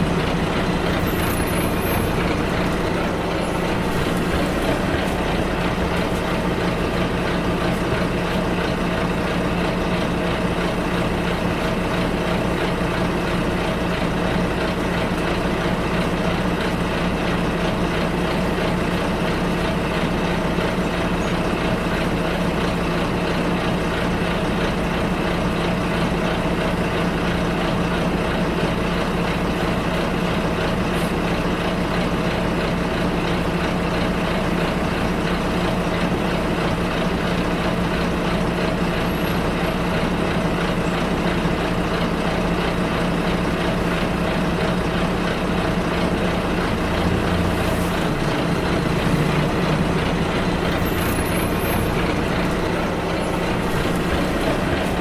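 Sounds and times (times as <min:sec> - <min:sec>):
bus engine running: 0:00.0 - 0:55.0
road and cabin noise: 0:00.0 - 0:55.0.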